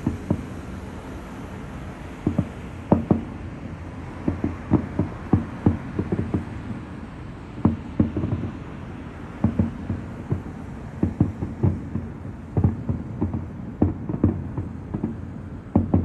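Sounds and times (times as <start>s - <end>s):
fireworks booming and popping: 0.0s - 0.6s, 2.2s - 3.4s, 4.2s - 6.9s, 7.6s - 16.0s
low background rumble: 0.0s - 16.0s.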